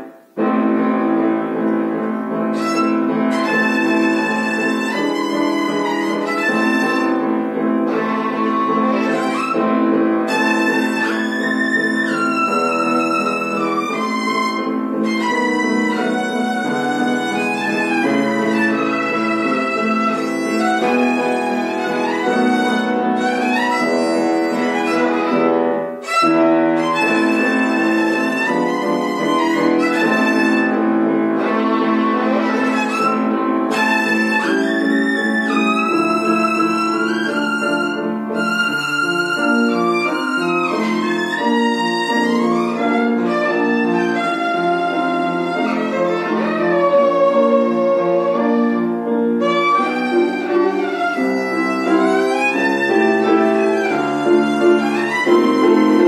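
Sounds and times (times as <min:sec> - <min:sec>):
piano accompaniment: 0:00.0 - 0:56.0
child playing violin: 0:01.5 - 0:56.0.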